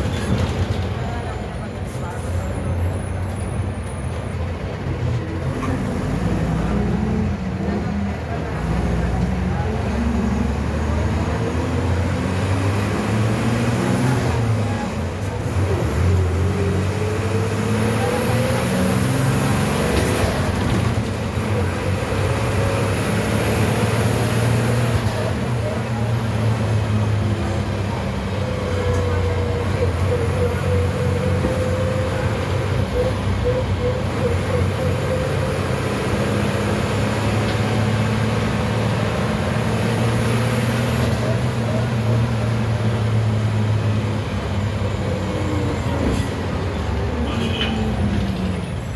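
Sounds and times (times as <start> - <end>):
bus engine running under load: 0.0 - 48.9.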